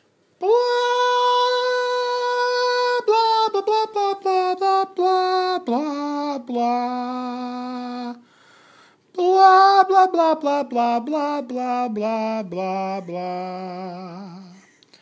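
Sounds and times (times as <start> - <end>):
person singing nonsense tune: 0.4 - 8.2, 9.2 - 14.8.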